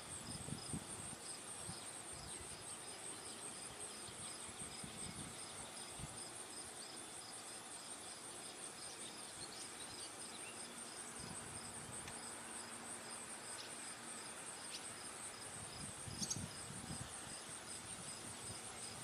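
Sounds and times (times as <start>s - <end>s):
crickets trilling: 0.0s - 19.0s
lower insect chirp: 0.0s - 19.0s.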